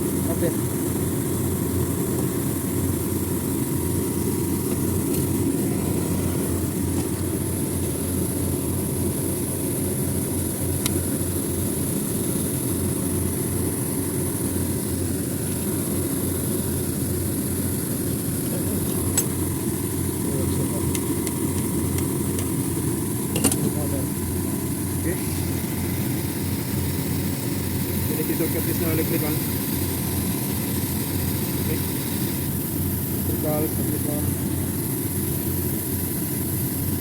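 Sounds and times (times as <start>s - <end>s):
machinery droning: 0.0s - 37.0s.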